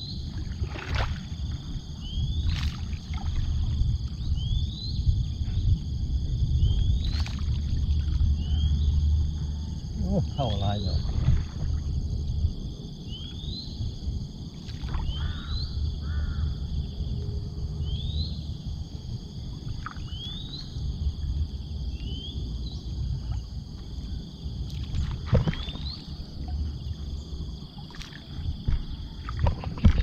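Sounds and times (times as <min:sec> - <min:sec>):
high insect drone: 0:00.0 - 0:30.0
low rumble: 0:00.0 - 0:30.0.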